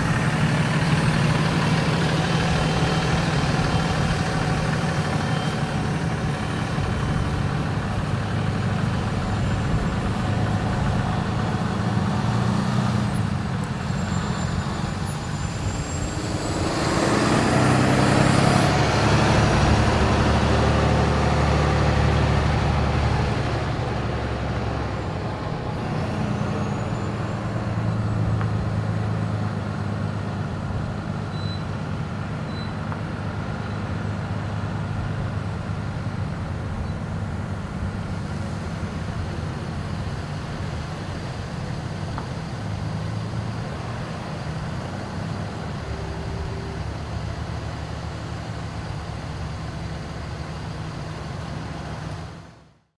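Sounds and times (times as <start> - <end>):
road noise: 0.0 - 53.0
truck diesel engines droning: 0.0 - 53.0.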